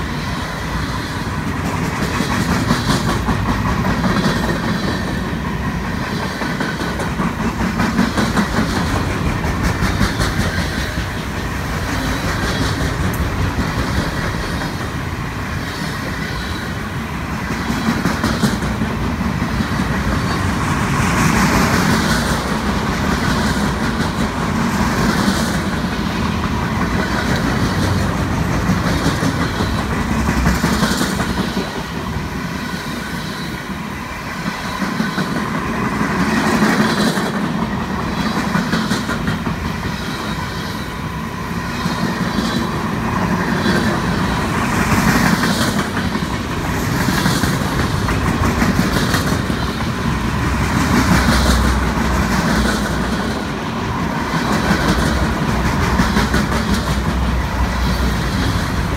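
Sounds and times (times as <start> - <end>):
steady rolling noise: 0.0 - 58.9
train wheels clicking over rail joints: 0.0 - 58.9.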